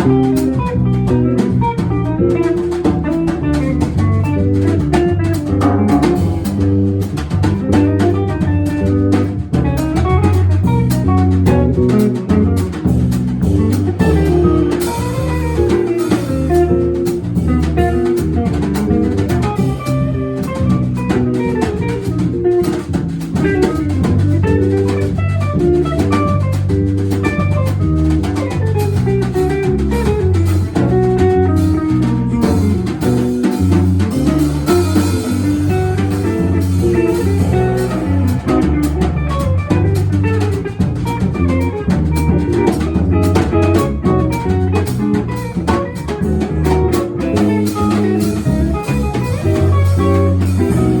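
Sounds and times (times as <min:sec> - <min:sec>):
low bass notes: 0:00.0 - 0:51.0
plucked-string lead: 0:00.0 - 0:51.0.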